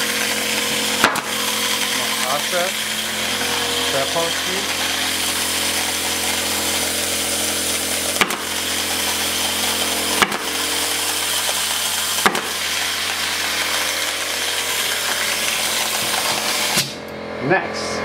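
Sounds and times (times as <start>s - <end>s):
pneumatic nailer snapping: 0.0s - 17.1s.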